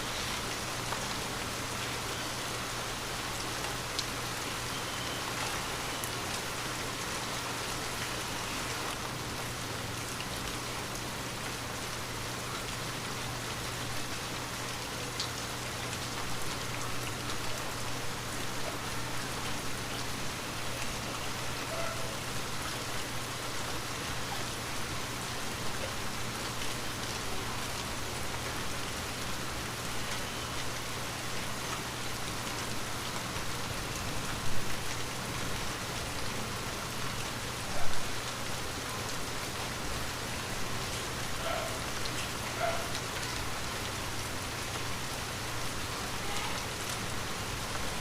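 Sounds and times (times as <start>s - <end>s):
light rain hiss: 0.0s - 48.0s
raindrops ticking on surfaces: 0.0s - 48.0s.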